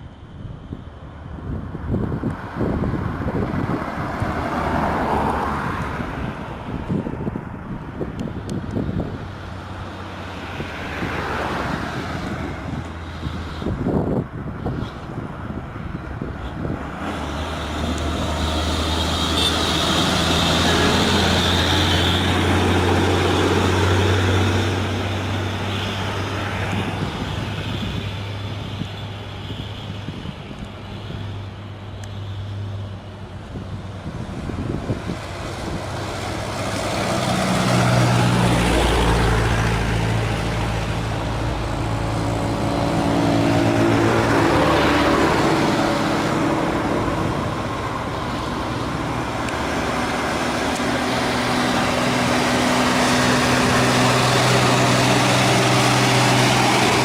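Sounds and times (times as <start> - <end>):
truck engine droning uphill: 4.4 - 57.0.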